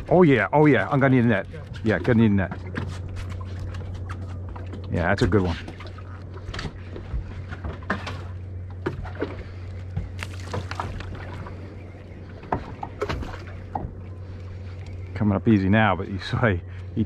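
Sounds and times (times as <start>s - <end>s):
steady low hum: 0.0s - 17.0s
waves lapping against boat hull: 0.0s - 17.0s.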